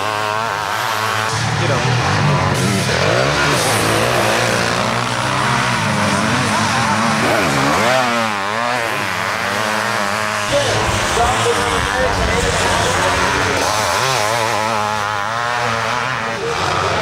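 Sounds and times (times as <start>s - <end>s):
racing engines revving past: 0.0s - 17.0s.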